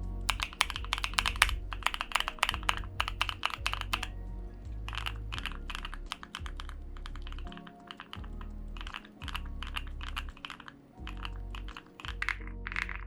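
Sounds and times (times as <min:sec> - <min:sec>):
background music with bass line: 0:00.0 - 0:13.0
mechanical keyboard typing: 0:00.3 - 0:04.1, 0:04.9 - 0:13.0.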